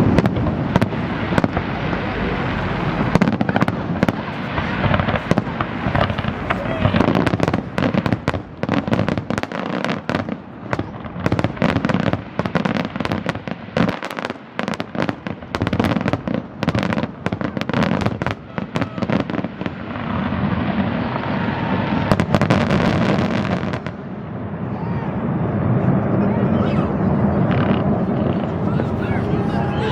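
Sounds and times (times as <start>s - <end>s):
fireworks bangs: 0.0s - 29.9s
fireworks crackling: 0.0s - 29.9s.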